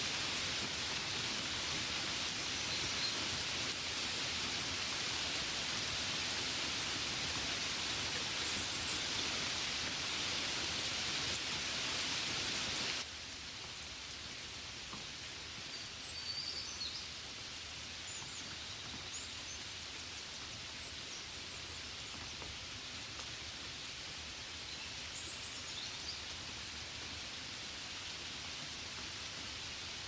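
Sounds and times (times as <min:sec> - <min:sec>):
rain hissing: 0:00.0 - 0:30.0.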